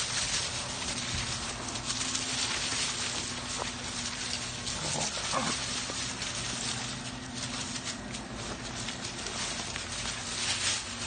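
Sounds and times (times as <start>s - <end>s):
footsteps crunching dry leaves: 0.0s - 11.0s
low steady hum: 0.0s - 11.0s.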